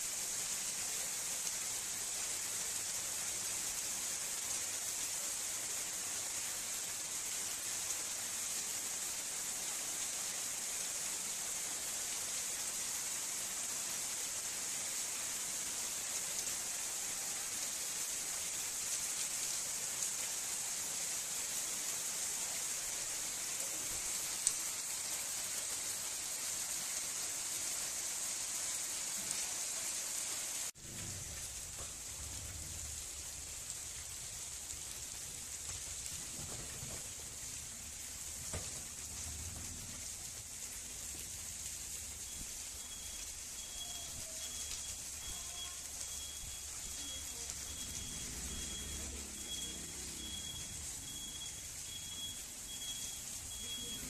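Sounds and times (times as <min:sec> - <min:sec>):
heavy rain on flooded pavement: 0:00.0 - 0:54.0.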